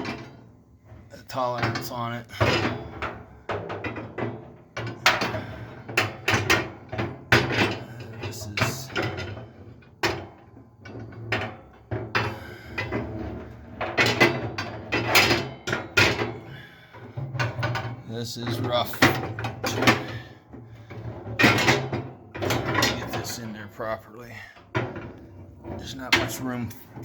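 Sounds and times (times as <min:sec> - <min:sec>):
metal grill rack clattering and scraping: 0:00.0 - 0:27.0.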